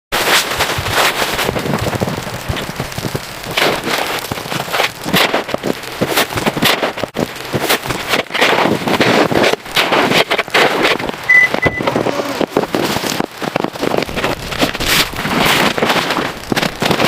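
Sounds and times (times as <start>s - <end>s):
continuous rushing wind: 0.1s - 17.0s
crackling bursts: 0.1s - 17.0s.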